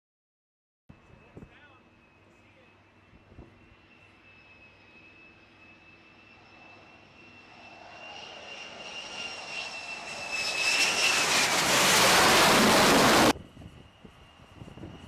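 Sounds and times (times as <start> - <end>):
fighter jet engine roar: 1.0 - 15.0.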